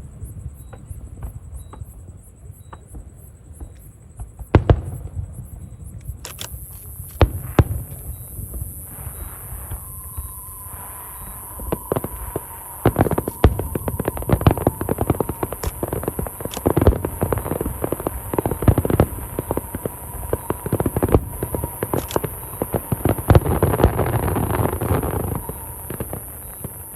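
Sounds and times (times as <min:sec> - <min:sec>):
fireworks bangs: 0:02.8 - 0:26.9
fireworks crackling: 0:03.6 - 0:26.9.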